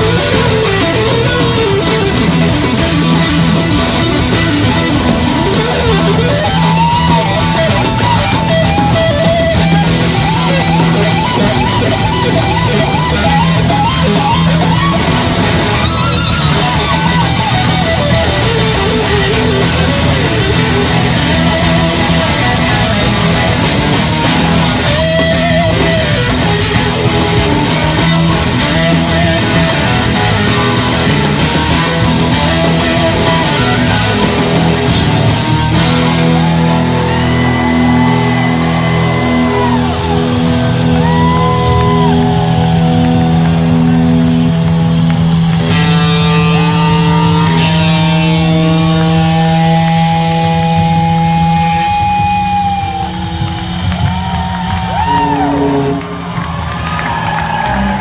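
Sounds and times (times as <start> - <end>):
electric guitar lead melody: 0.0 - 58.0
rock band playing live: 0.0 - 58.0.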